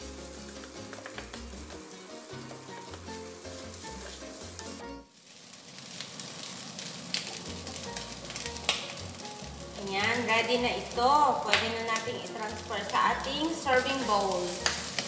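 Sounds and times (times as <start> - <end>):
background music: 0.0 - 5.1, 7.4 - 15.0
rice sizzling in a pan: 0.0 - 15.0.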